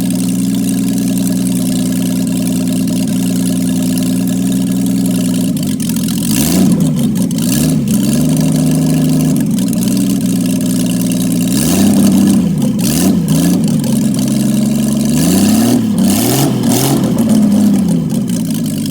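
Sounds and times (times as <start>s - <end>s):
car engine revving and idling: 0.0s - 18.9s.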